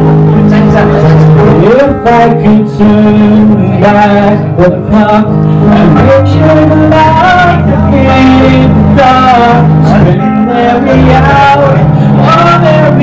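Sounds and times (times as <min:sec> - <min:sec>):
instrumental accompaniment: 0:00.0 - 0:13.0
man singing into a microphone: 0:00.1 - 0:13.0.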